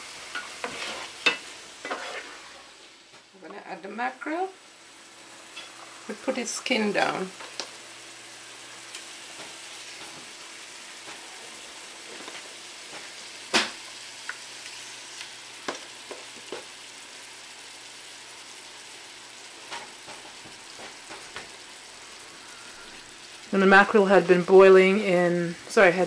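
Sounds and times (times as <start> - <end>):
sauce sizzling in a frying pan: 0.0 - 26.0.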